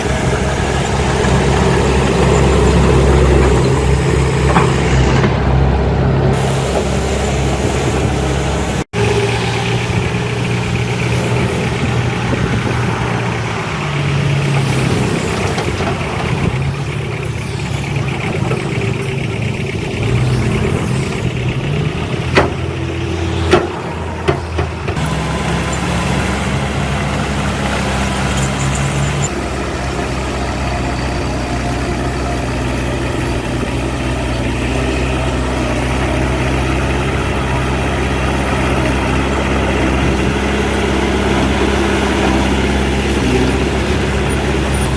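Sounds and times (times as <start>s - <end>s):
heavy machinery diesel engines: 0.0s - 44.9s.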